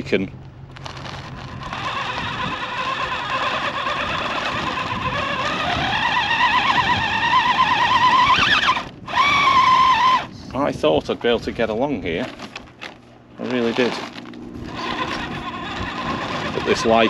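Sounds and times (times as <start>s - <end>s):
tyres scrabbling on rock: 0.1s - 10.1s, 11.2s - 17.0s
electric motor whining: 0.6s - 10.5s, 11.6s - 17.0s.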